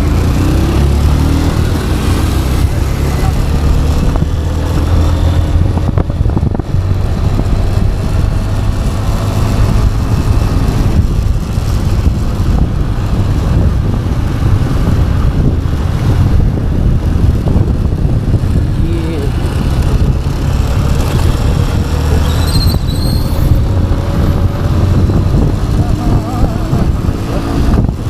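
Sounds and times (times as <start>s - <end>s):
motorcycle engine rumble: 0.0s - 28.0s
road and air noise: 0.0s - 28.0s.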